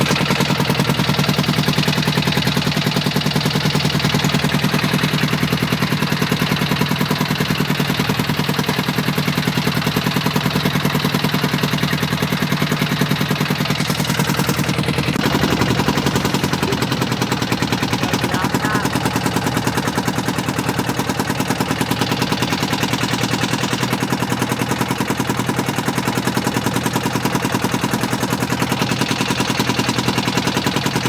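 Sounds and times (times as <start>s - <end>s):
small engine knocking: 0.0s - 31.0s.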